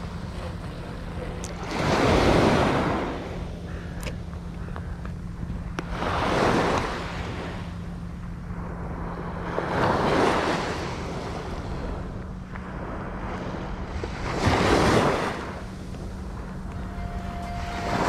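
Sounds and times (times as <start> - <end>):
steady low hum: 0.0 - 18.0
surf waves breaking: 0.0 - 18.0.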